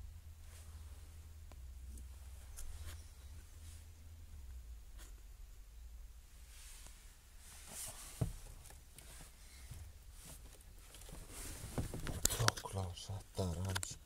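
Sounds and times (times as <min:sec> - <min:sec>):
low steady hum: 0:00.0 - 0:14.0
faint rustling and handling: 0:00.4 - 0:05.3, 0:06.3 - 0:14.0.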